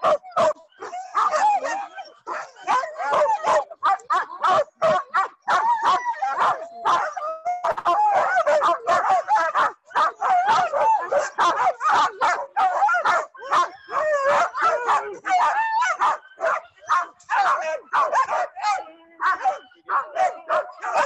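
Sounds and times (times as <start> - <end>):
sled dogs barking and yelping: 0.0 - 21.0.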